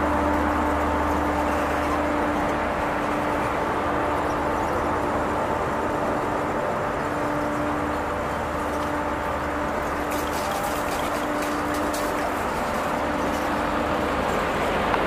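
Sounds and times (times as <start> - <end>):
faint steady hum: 0.0 - 15.0
train coaches rolling on rails: 0.0 - 15.0
wheels clicking on rails: 0.0 - 15.0.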